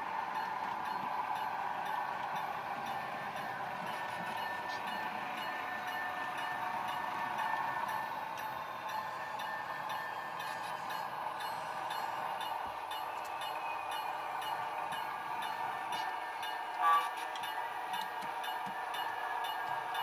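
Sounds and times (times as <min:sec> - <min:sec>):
model train wheels whirring: 0:00.0 - 0:20.0.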